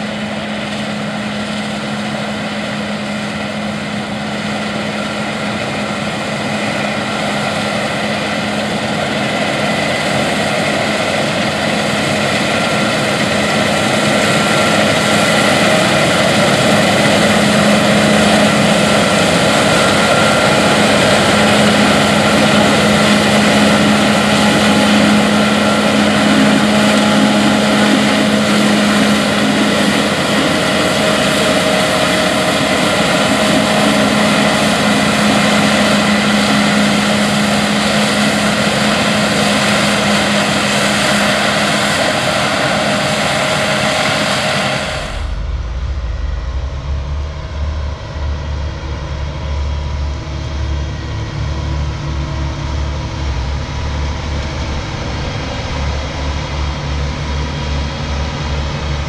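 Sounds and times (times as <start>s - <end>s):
combine harvester running under load: 0.0s - 59.0s
constant low hum: 0.0s - 59.0s.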